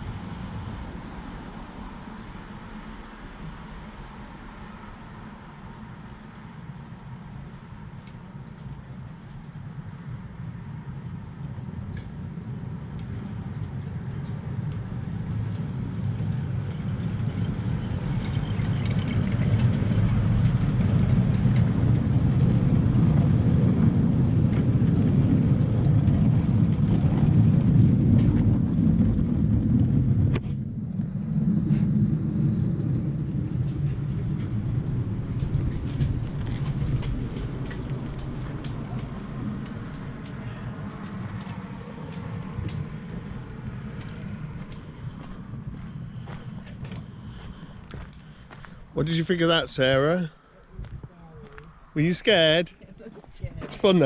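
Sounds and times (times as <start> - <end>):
miniature train rumbling: 0.0 - 54.0.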